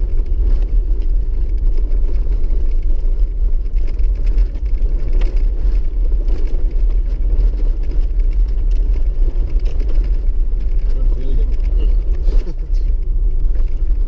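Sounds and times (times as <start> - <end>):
body and suspension rattles: 0.0 - 14.0
diesel engine deep rumble: 0.0 - 14.0.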